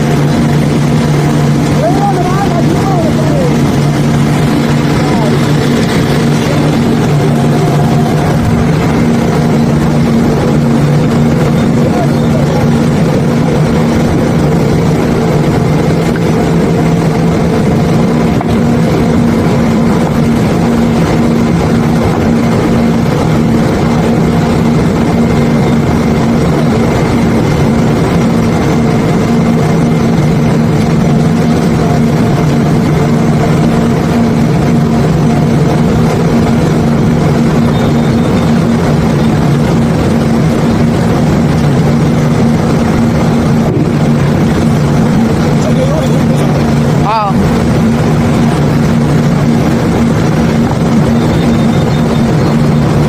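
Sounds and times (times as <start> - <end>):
diesel engine droning: 0.0 - 53.0
steady rushing noise: 0.0 - 53.0.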